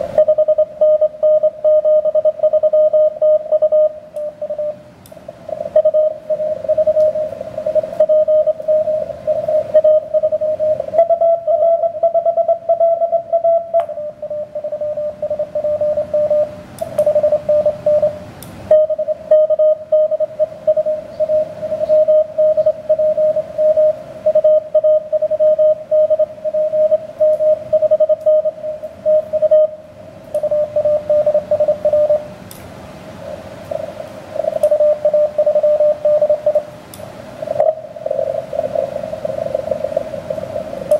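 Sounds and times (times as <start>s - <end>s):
higher-pitched morse signal: 0.0s - 4.8s, 5.5s - 32.3s, 33.7s - 36.7s
morse code tones: 0.0s - 4.8s, 5.5s - 32.3s, 33.7s - 36.7s
radio band hiss: 0.0s - 40.9s.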